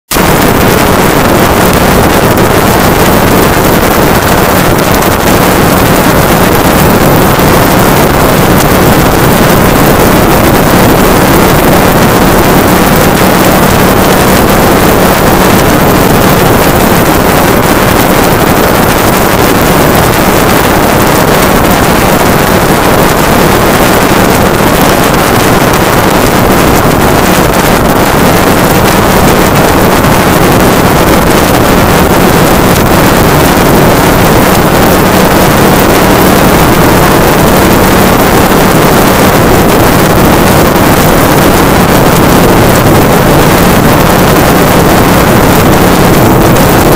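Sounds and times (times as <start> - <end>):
wind rush on microphone: 0.0 - 46.9.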